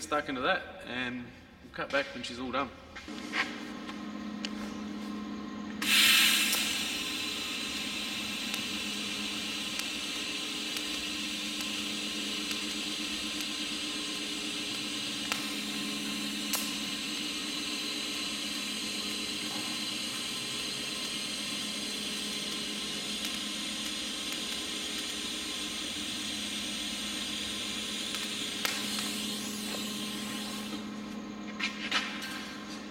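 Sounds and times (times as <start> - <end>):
welding arc hissing: 5.7 - 32.9.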